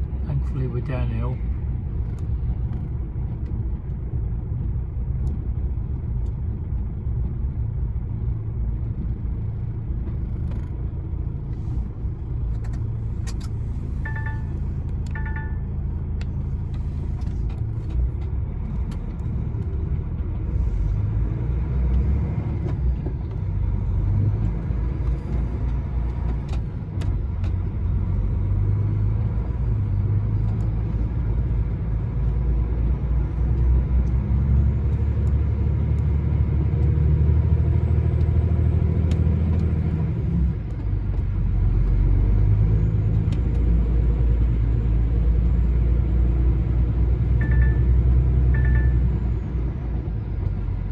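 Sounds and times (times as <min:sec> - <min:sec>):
road rumble: 0:00.0 - 0:50.9
lorry engine droning: 0:09.0 - 0:50.9.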